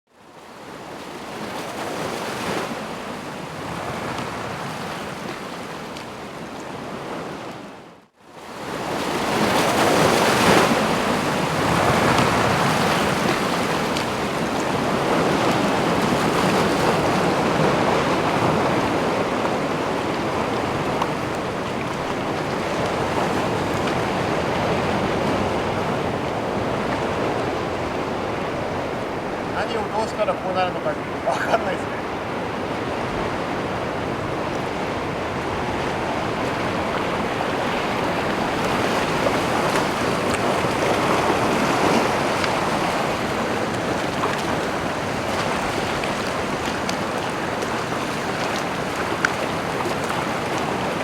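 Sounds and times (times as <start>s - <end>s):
wind: 0.1s - 51.0s
sea waves washing at shore: 0.2s - 51.0s.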